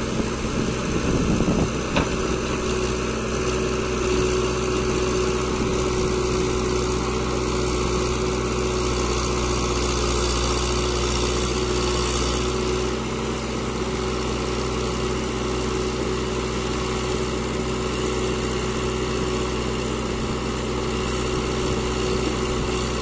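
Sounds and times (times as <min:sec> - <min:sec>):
backhoe digging soil: 0:00.0 - 0:23.0
diesel engine running: 0:00.0 - 0:23.0.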